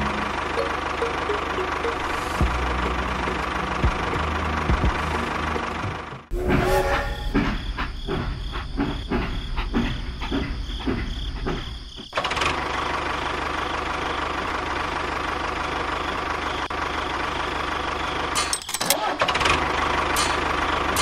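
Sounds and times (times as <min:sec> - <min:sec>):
engine idling: 0:00.0 - 0:06.4, 0:07.3 - 0:21.0
steam locomotive chuffing: 0:00.0 - 0:18.4.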